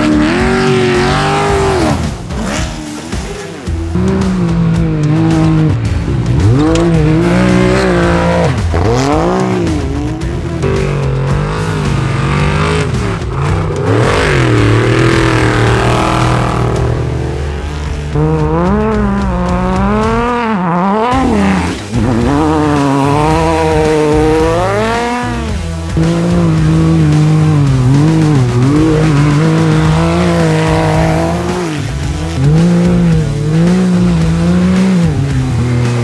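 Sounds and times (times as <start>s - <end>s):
buggy engine revving: 0.0s - 36.0s
race truck engine revving: 0.0s - 36.0s.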